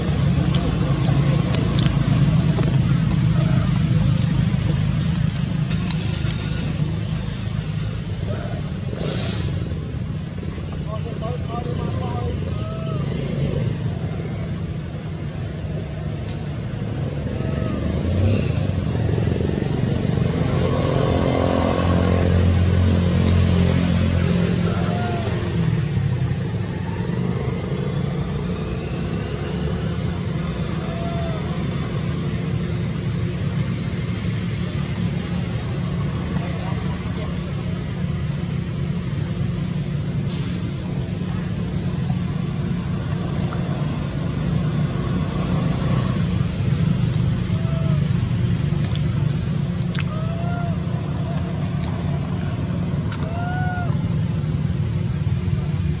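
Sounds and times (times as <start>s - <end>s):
motor vehicle engine rumble: 0.0s - 56.0s.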